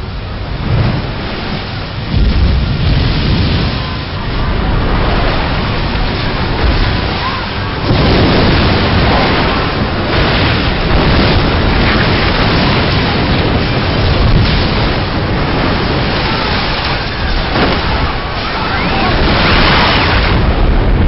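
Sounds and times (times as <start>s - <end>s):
tsunami wave crashing water: 0.0s - 21.0s.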